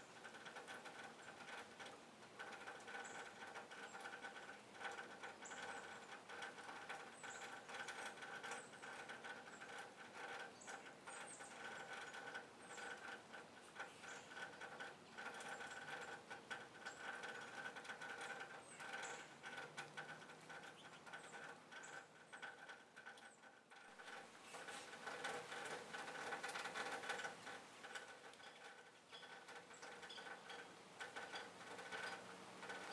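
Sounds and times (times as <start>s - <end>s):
small birds chipping: 0.0s - 32.9s.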